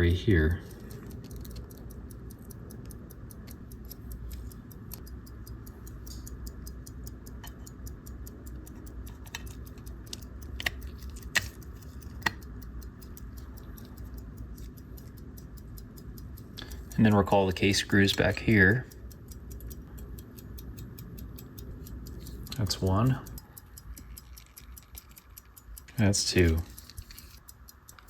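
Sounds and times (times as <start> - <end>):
pocket watch ticking: 0.0 - 28.0
small tools clicking on watch: 0.0 - 28.0.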